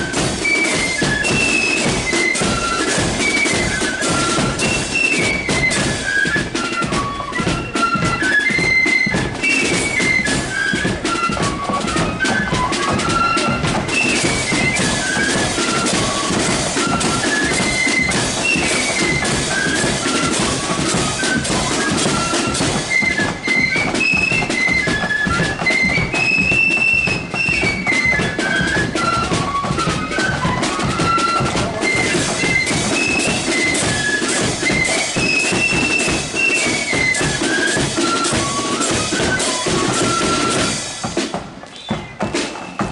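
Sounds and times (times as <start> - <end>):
flutes playing in unison: 0.0 - 42.9
snare and bass drums beat: 0.0 - 42.9.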